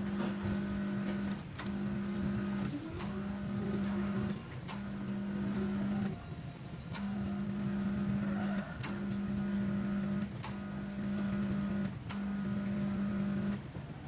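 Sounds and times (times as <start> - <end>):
coffee machine humming: 0.0 - 14.0.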